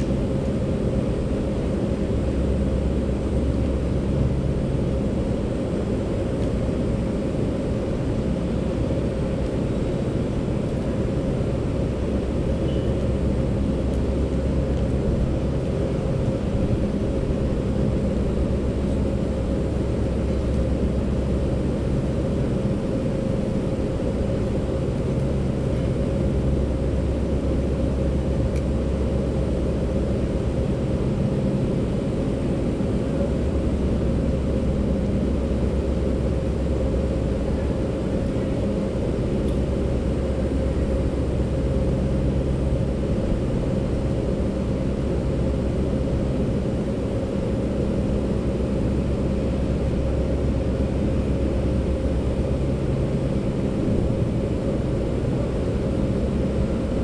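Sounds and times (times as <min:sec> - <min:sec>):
machine humming and rumbling: 0:00.0 - 0:57.0.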